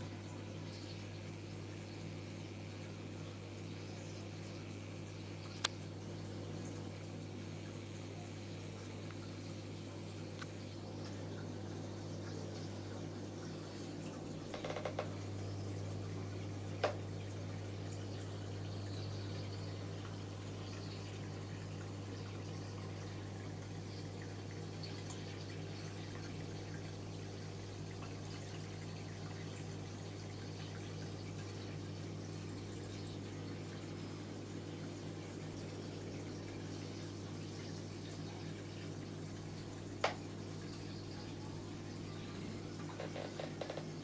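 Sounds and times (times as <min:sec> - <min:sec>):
aquarium pump humming: 0:00.0 - 0:44.0.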